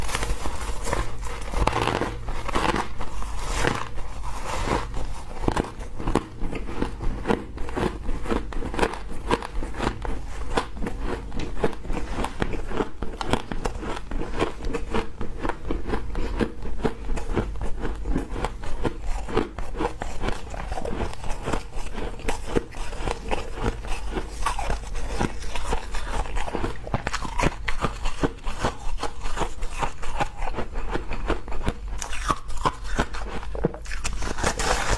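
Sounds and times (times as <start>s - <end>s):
freezer frost crunching: 0.0s - 34.9s.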